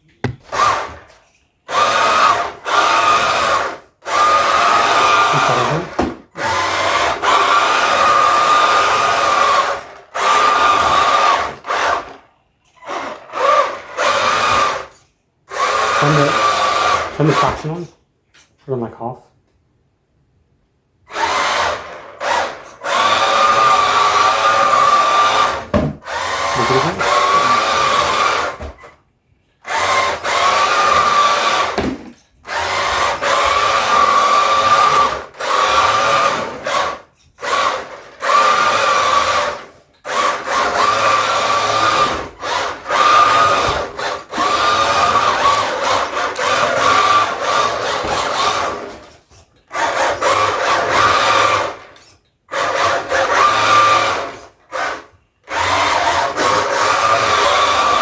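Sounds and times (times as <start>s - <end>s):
toy truck electric motor whining: 0.2s - 17.7s, 21.1s - 58.0s.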